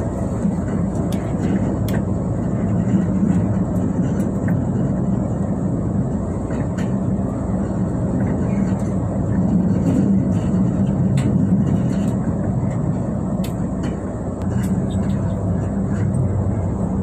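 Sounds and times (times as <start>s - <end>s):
train engine drone: 0.0s - 17.0s
train wheels on rails: 0.0s - 17.0s.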